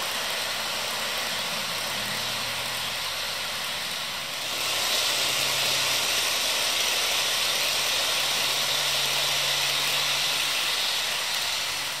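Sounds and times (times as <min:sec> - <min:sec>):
model train wheels on rails: 0:00.0 - 0:12.0.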